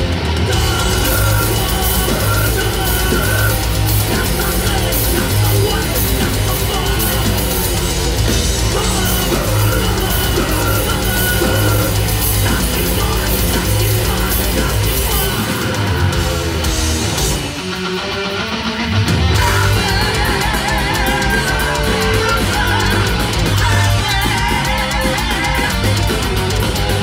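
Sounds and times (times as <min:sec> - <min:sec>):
bass guitar: 0:00.0 - 0:27.0
distorted electric guitars: 0:00.0 - 0:27.0
drum kit: 0:00.0 - 0:27.0.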